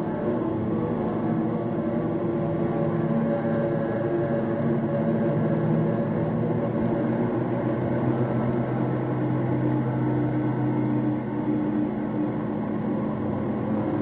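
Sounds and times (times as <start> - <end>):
low drone of held tones: 0.0 - 14.0
noisy hum: 0.0 - 14.0.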